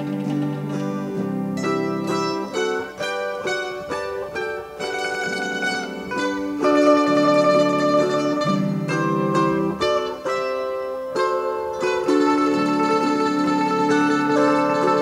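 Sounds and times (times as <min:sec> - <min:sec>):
mandolin ensemble playing: 0:00.0 - 0:15.0.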